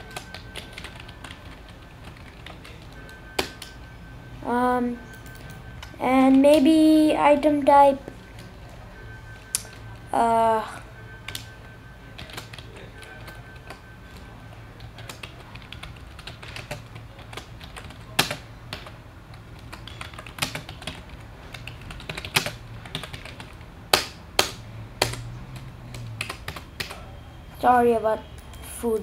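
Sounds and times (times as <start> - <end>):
keyboard typing: 0.0 - 3.9, 4.9 - 8.8, 11.1 - 27.0.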